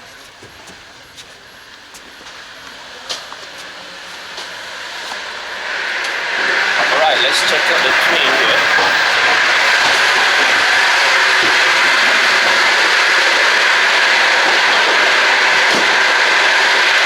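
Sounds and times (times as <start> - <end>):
train running noise inside carriage: 0.0 - 17.0.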